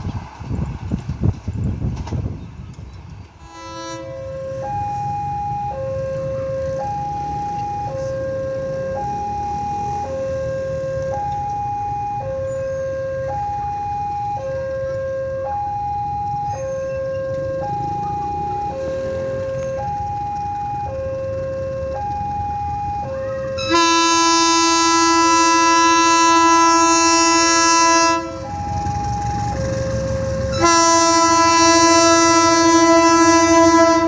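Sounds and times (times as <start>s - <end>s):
level crossing two-tone alarm: 4.2s - 33.8s.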